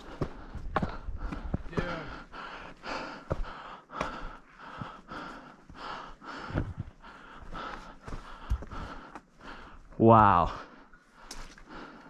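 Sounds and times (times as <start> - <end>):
person breathing hard: 0.0 - 12.0.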